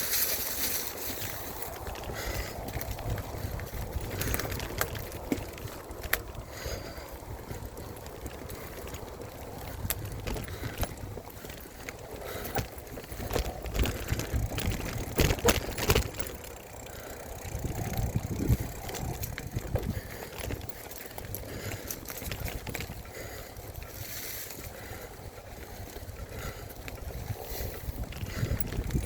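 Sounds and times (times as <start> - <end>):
mountain bike on dirt trail: 0.0 - 29.0
bike knocks and rattles: 0.2 - 24.1, 25.8 - 29.0.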